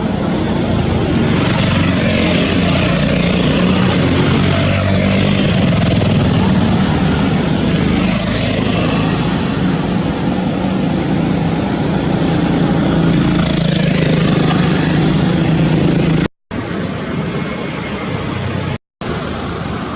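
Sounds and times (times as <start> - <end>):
engine hum: 0.0 - 19.9
loud rushing noise: 0.0 - 19.9.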